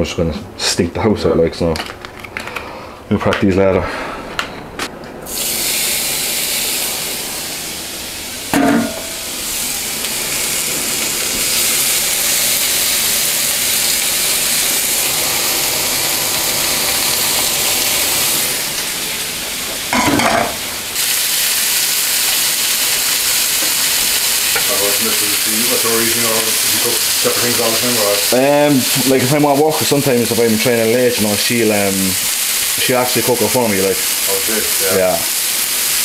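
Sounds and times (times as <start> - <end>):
meat sizzling in a pan: 5.3 - 36.0.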